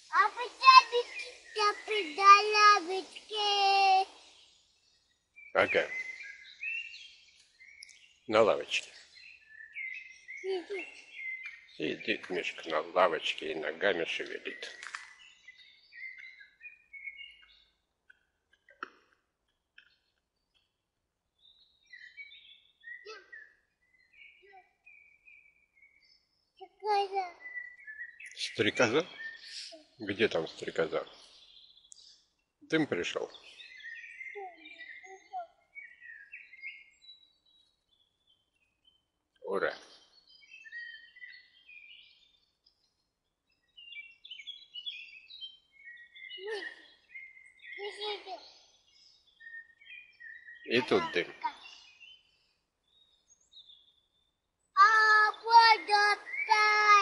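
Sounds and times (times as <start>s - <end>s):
faint birdsong: 0.0s - 57.0s
songbirds singing: 0.0s - 57.0s.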